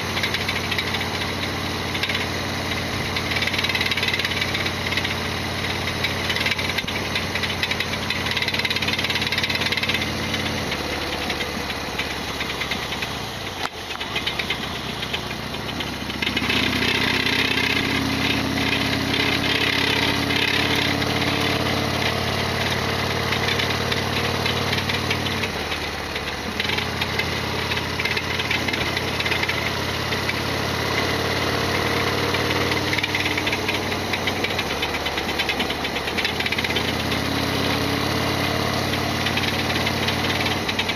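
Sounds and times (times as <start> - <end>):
motorcycle engine running: 0.0 - 40.9
mechanical clatter: 0.1 - 31.0, 32.3 - 37.8.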